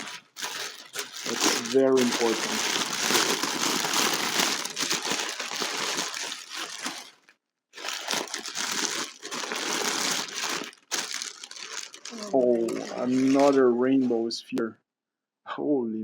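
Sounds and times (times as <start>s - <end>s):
packing paper crinkling: 0.0s - 14.2s.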